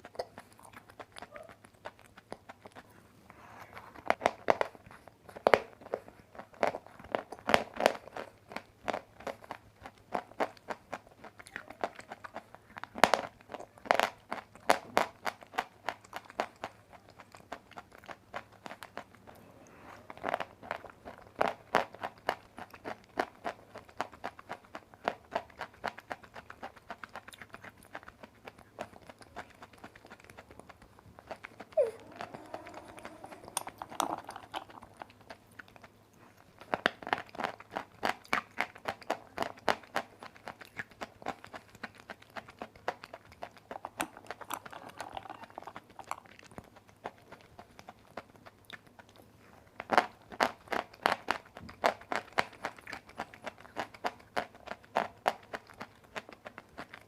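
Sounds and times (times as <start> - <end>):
chalk crunching while chewed: 0.0 - 57.0.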